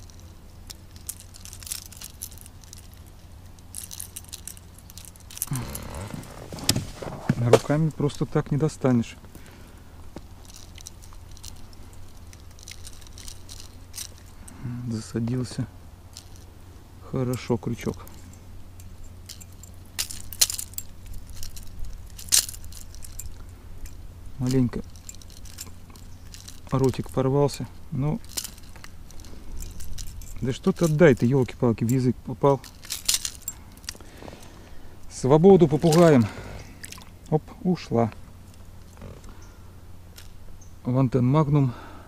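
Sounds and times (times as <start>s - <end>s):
metal hooks clicking and jingling: 0.0s - 6.5s, 10.1s - 40.5s.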